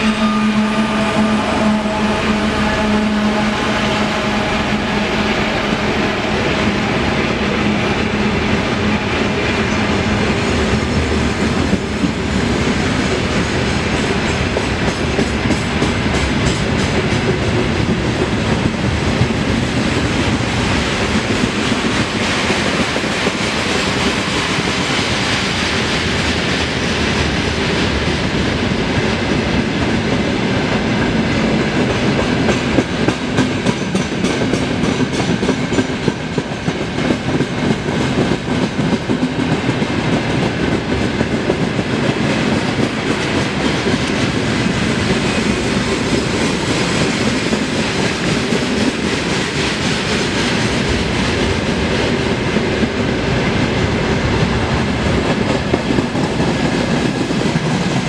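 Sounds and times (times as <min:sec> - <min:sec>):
freight train rumbling and rattling: 0:00.0 - 0:58.0
wheels clickety-clack: 0:07.3 - 0:58.0.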